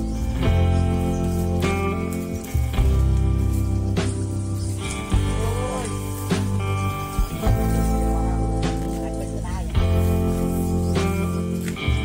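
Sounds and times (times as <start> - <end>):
background music: 0.0 - 12.0
held chords over deep bass: 0.0 - 12.0.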